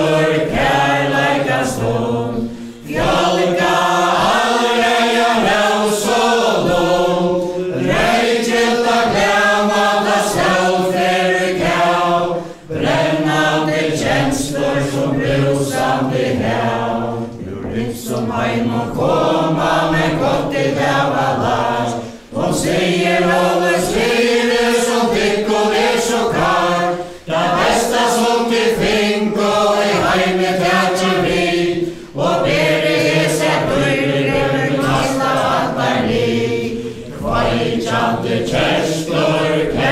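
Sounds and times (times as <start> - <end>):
crowd singing in unison: 0.0 - 39.9.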